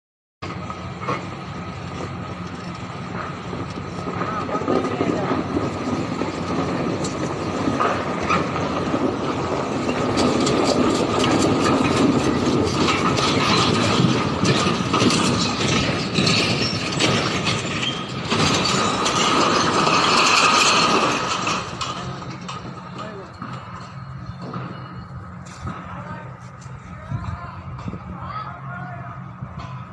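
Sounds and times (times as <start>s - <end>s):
heavy machinery clattering: 0.4s - 28.6s.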